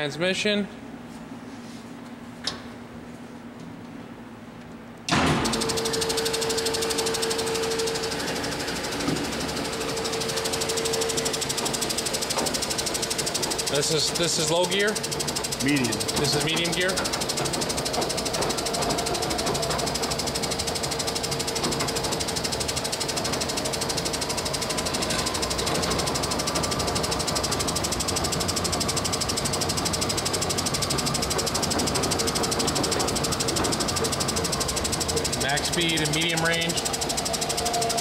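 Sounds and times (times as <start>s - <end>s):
band saw running: 5.1s - 38.0s.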